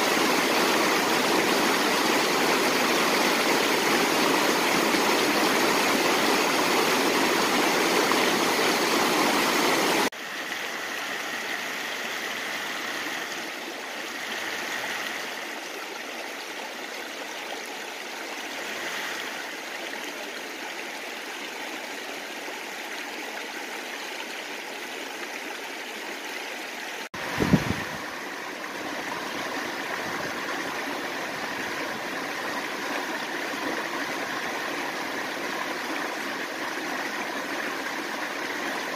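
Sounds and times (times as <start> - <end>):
water rushing over rocks: 0.0 - 21.0, 26.9 - 38.9.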